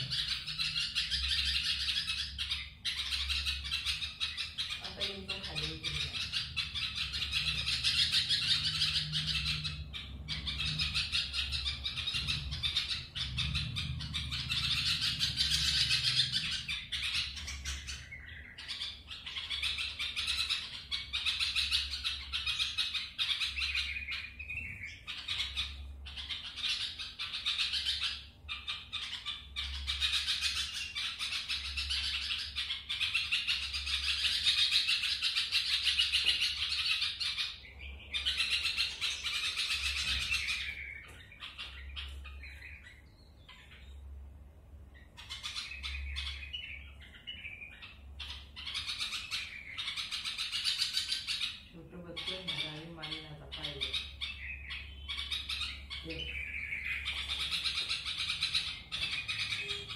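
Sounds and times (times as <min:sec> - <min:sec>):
young birds chirping and squawking: 0:00.0 - 0:59.9.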